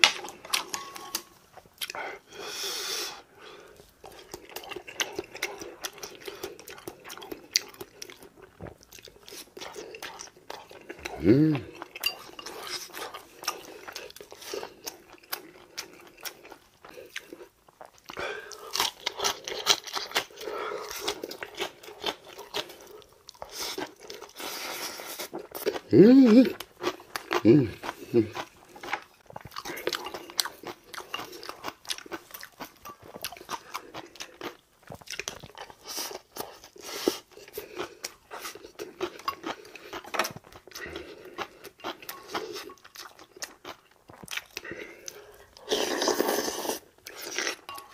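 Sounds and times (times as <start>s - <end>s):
person chewing: 0.0s - 47.9s.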